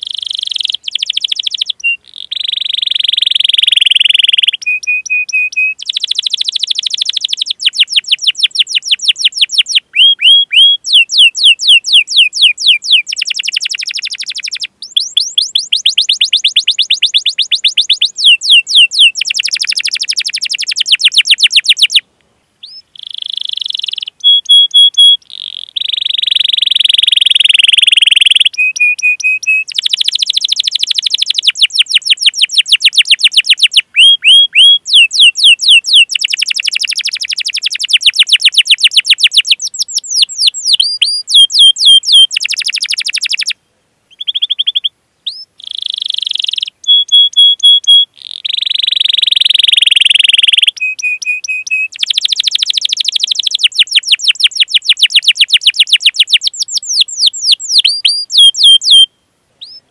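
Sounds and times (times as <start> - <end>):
canary singing: 0.0 - 22.0, 22.6 - 59.9.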